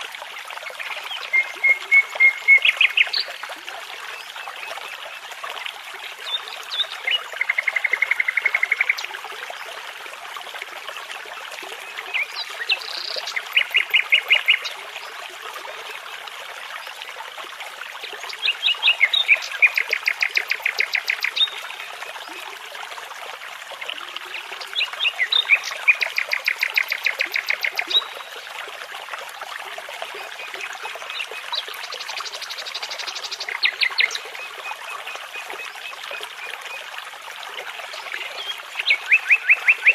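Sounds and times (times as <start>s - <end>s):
babbling brook: 0.0s - 39.9s.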